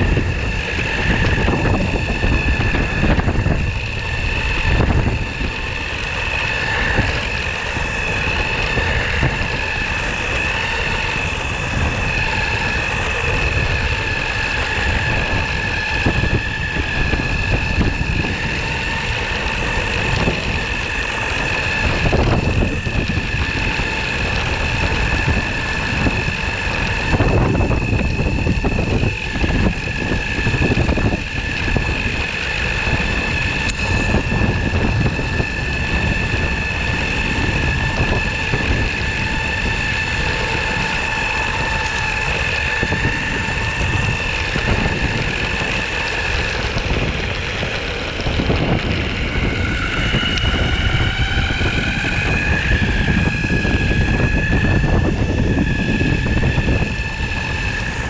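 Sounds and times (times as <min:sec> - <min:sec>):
electric motor whine: 0:00.0 - 0:58.0
wheels rolling on pavement: 0:00.0 - 0:58.0.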